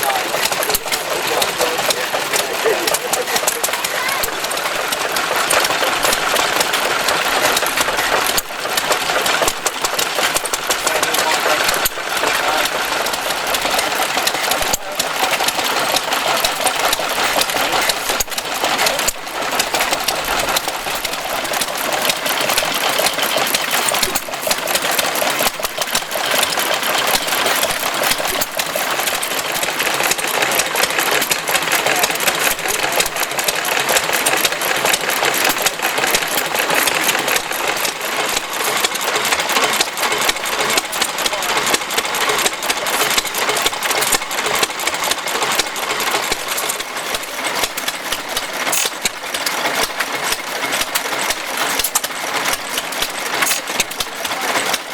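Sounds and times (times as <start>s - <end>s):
small engine clattering: 0.0s - 54.9s.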